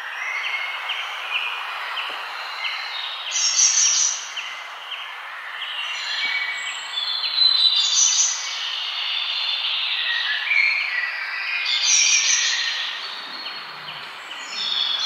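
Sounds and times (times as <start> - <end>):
birds singing and chirping: 0.0 - 15.0
outdoor background hiss: 0.0 - 15.0.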